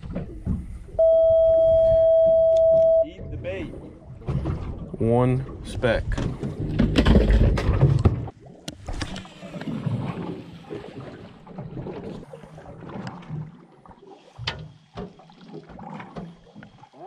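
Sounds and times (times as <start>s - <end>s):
water lapping against a boat: 0.0s - 17.0s.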